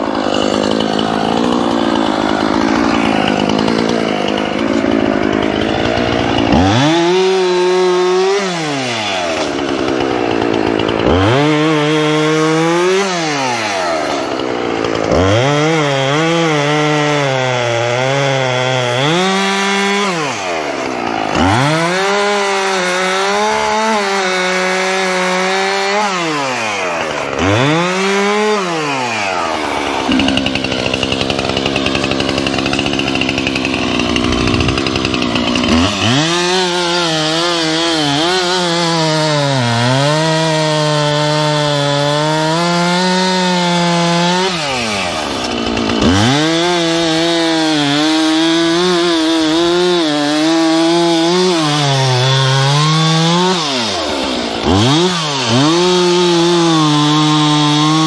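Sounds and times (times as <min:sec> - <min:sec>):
chainsaw cutting: 0:00.0 - 0:58.0.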